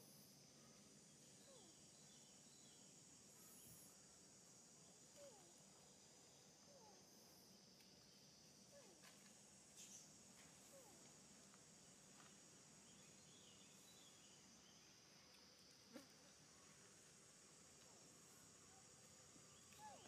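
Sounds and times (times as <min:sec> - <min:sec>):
high insect hum: 0:00.0 - 0:20.0.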